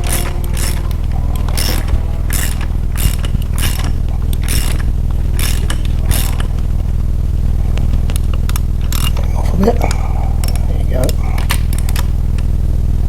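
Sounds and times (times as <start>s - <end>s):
chainsaw running: 0.0s - 13.0s
ratchet wrench scraping: 0.0s - 13.0s.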